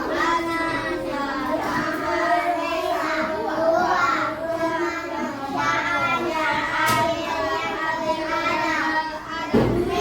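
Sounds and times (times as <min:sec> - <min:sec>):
children singing in unison: 0:00.0 - 0:10.0.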